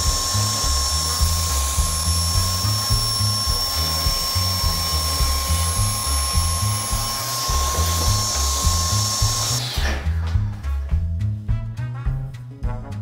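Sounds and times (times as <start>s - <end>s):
table saw whining: 0.0s - 10.5s
background music with bass line: 0.0s - 13.0s.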